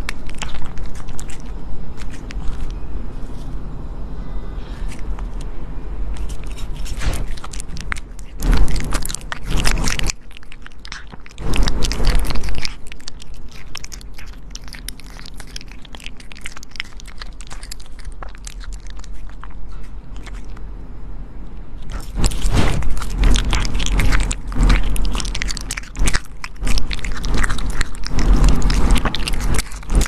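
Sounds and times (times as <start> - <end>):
pet crunching food: 0.0 - 3.6, 4.6 - 20.7, 21.6 - 30.0.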